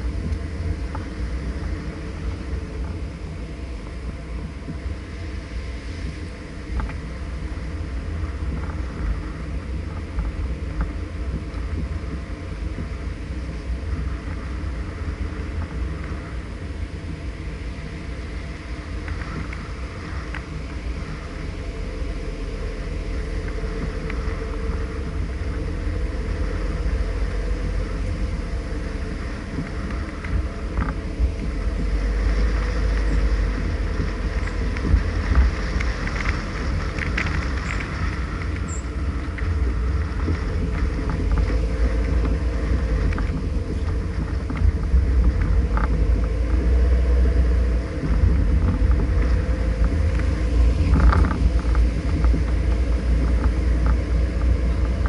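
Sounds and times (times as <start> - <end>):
car engine and tyre rumble: 0.0 - 55.0
faint hum: 0.0 - 55.0.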